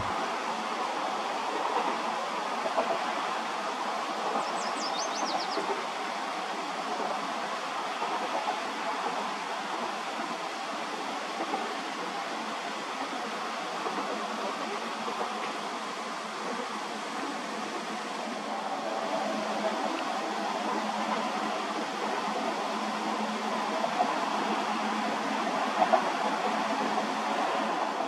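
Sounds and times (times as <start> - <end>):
freight train rolling: 0.0 - 28.0.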